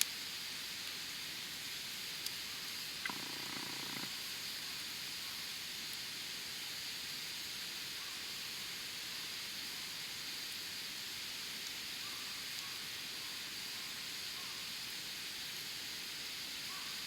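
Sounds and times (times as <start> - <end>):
campfire hissing and crackling: 0.0 - 17.0.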